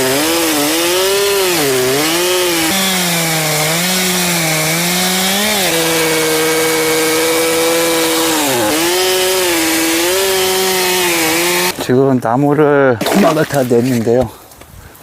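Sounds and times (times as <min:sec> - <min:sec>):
chainsaw cutting log: 0:00.0 - 0:11.9, 0:13.0 - 0:13.8.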